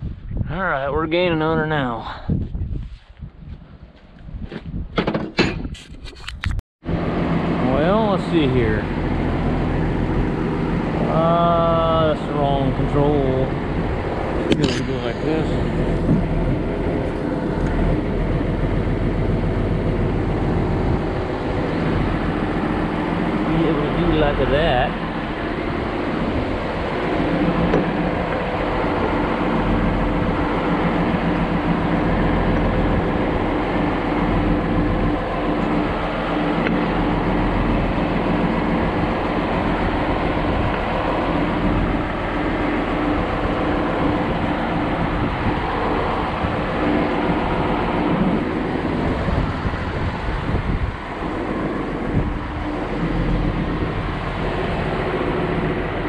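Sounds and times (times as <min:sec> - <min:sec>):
diesel engine running: 0:06.8 - 0:56.0.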